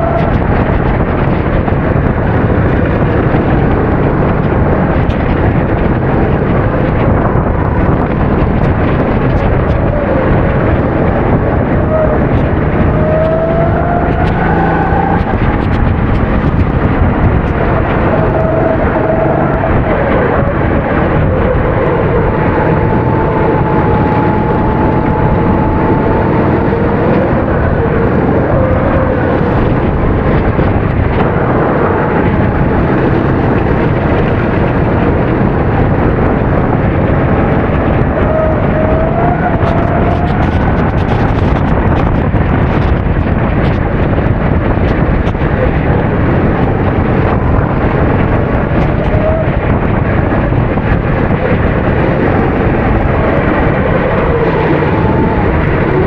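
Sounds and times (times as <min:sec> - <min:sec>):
kart engine racing: 0:00.0 - 0:56.0
loud rushing noise: 0:00.0 - 0:56.0.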